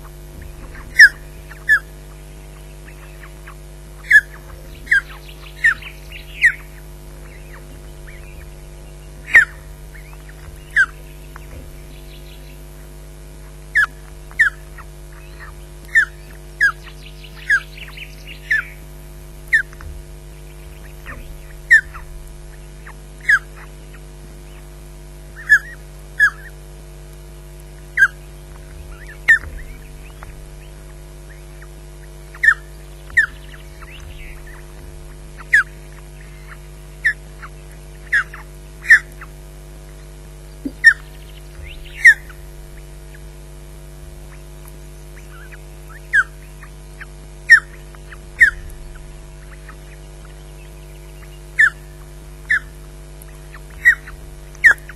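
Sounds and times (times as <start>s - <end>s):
low electrical hum: 0.0s - 54.9s
osprey chirping: 0.0s - 54.9s.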